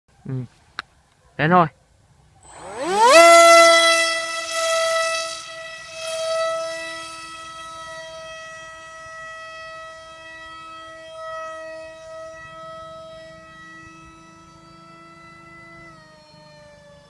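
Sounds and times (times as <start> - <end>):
aircraft engine whine: 2.4 - 17.0.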